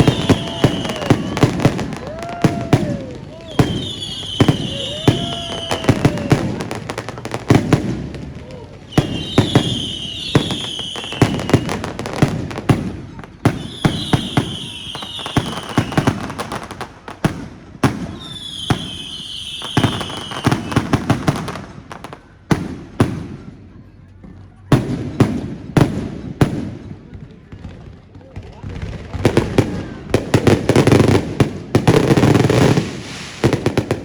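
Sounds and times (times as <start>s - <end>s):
fireworks fizzing hiss: 0.0s - 23.0s, 29.4s - 34.0s
fireworks bangs and crackling pops: 0.0s - 34.0s.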